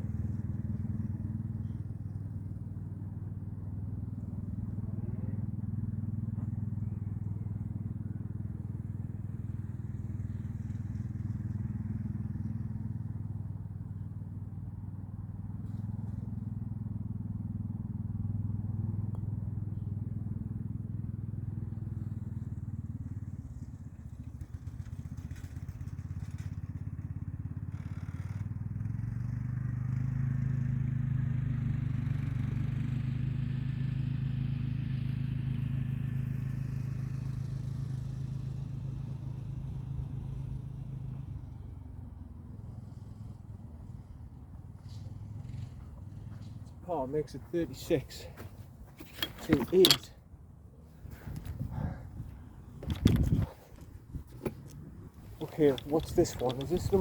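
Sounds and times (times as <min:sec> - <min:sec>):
golf buggy motor hum: 0:00.0 - 0:57.0.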